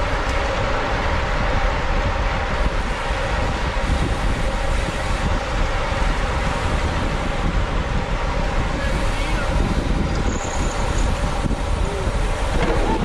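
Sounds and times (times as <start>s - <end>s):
tyres rumbling on road: 0.0s - 13.0s
wind rushing over microphone: 0.0s - 13.0s.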